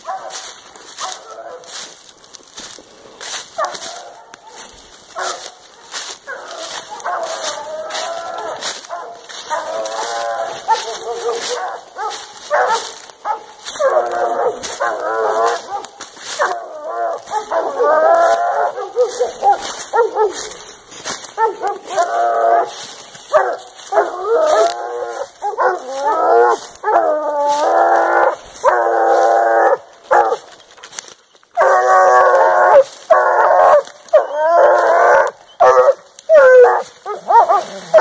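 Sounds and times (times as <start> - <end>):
dogs baying: 0.0 - 38.0.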